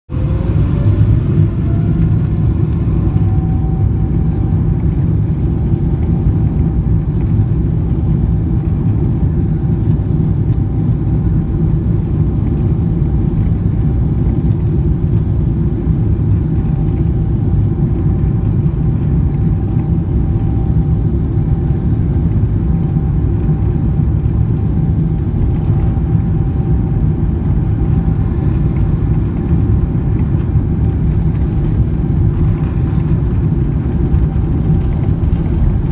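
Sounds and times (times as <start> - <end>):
faint high engine whine: 0.1 - 35.9
jet engines rumbling: 0.1 - 35.9.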